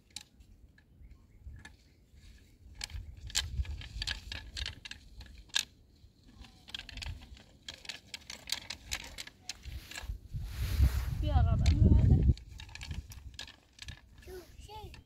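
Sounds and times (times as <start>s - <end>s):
grit crackling under roller: 1.6s - 15.0s.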